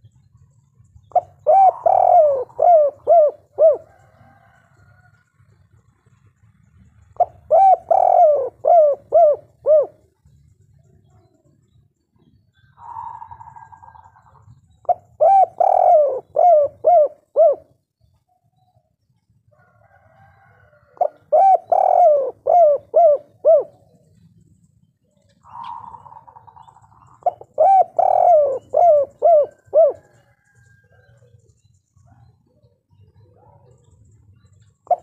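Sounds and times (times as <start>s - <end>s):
dove cooing: 0.0s - 5.0s, 6.9s - 17.8s, 19.6s - 35.0s.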